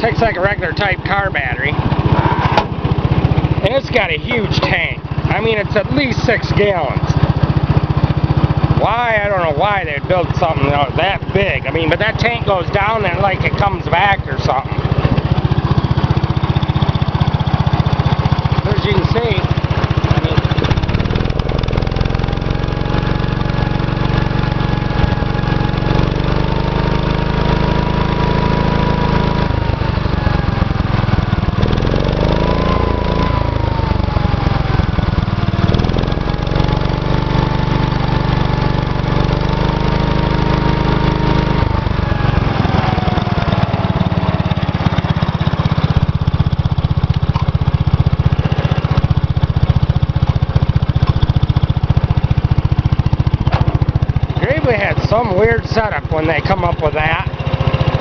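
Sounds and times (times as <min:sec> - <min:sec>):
tractor engine running with whine: 0:00.0 - 0:58.0.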